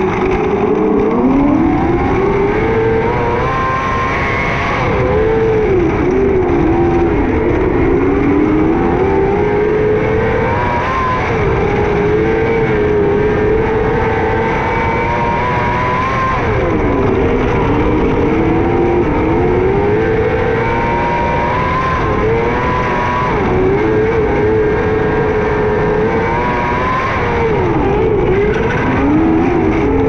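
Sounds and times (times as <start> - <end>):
race car engine running: 0.0 - 30.0.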